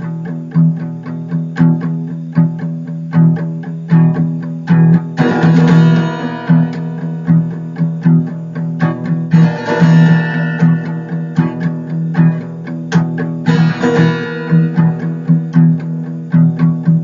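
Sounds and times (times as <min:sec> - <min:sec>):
plucked guitar notes: 0:00.0 - 0:17.0
steady bass line: 0:00.0 - 0:17.0
strummed guitar: 0:00.0 - 0:17.0.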